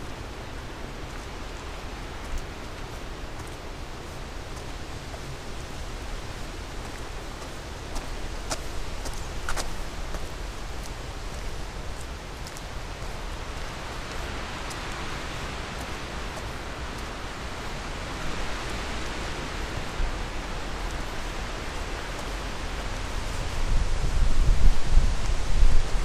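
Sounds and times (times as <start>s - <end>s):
leaves rustling in wind: 0.0s - 26.0s
wind rumble on microphone: 0.0s - 26.0s.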